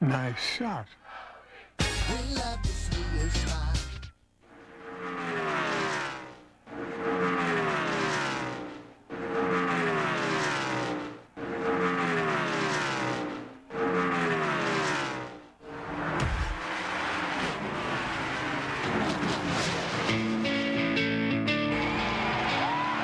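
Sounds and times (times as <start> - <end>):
race cars passing by: 4.5 - 23.0.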